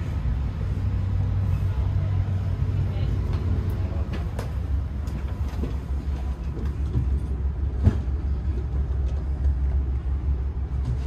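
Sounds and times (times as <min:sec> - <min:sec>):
railcar low rumble: 0:00.0 - 0:11.0.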